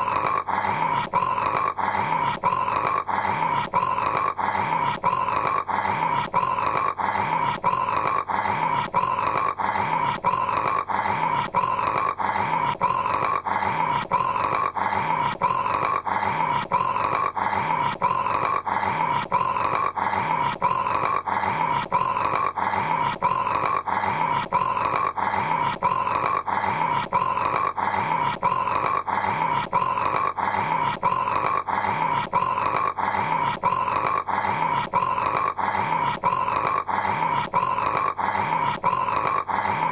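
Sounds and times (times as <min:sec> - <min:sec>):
person snoring: 0:00.0 - 0:39.9.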